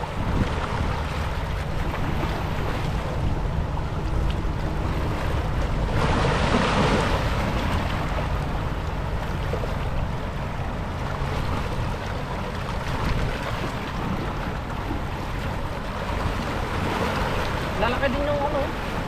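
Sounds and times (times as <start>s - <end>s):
waves lapping on rocky shore: 0.0s - 19.0s
wind buffeting microphone: 0.0s - 19.0s.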